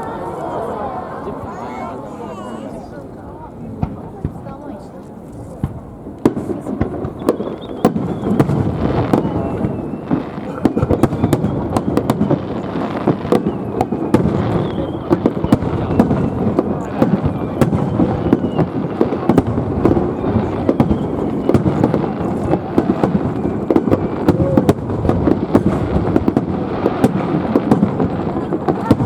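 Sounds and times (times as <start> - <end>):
fireworks booming: 0.0 - 4.9, 5.5 - 29.0
fireworks crackling: 0.0 - 29.0.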